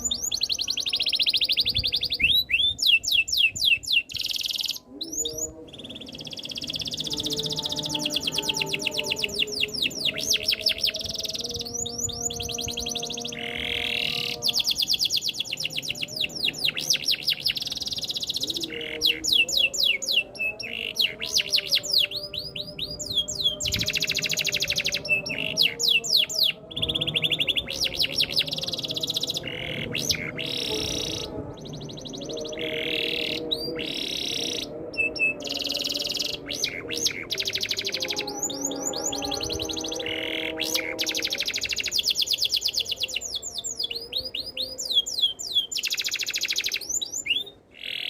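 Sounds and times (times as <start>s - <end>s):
canary singing trills: 0.0s - 48.0s.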